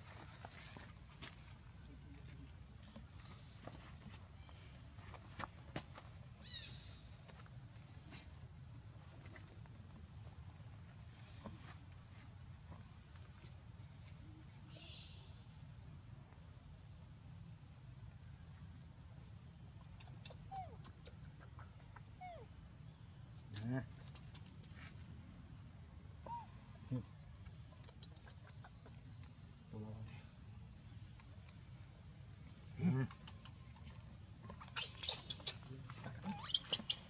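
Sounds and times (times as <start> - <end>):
insect chorus: 0.0 - 37.0.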